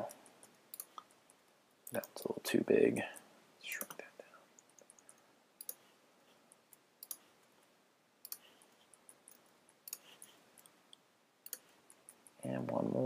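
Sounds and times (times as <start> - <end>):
computer mouse clicks: 0.0 - 2.2, 3.2 - 5.9, 6.5 - 12.4.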